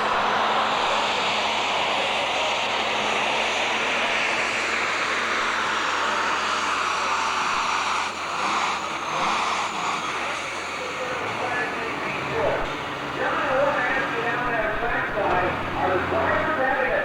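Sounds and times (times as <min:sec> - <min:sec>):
tractor engine at full throttle: 0:00.0 - 0:17.0.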